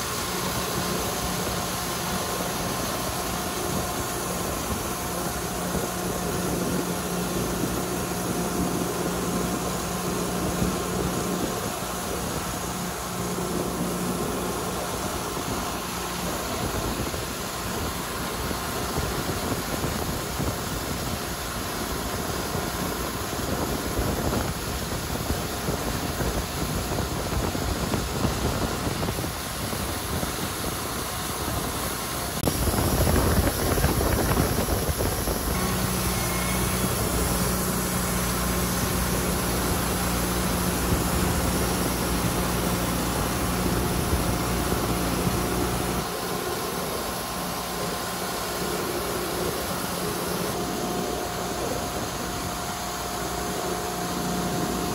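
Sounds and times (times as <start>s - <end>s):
sawmill engine running: 0.0s - 54.9s
steady hum: 0.0s - 54.9s.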